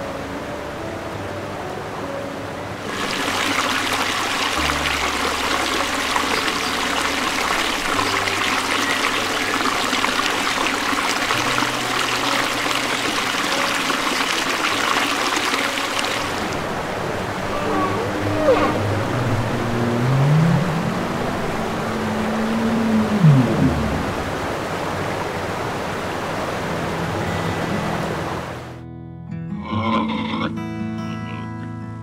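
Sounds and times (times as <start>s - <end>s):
running water rushing: 0.0s - 28.8s
low background music: 0.0s - 32.0s.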